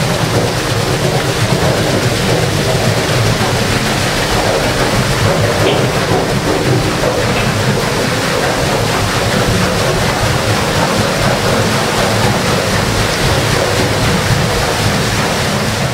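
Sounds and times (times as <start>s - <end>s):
water rushing at waterwheel: 0.0s - 15.9s.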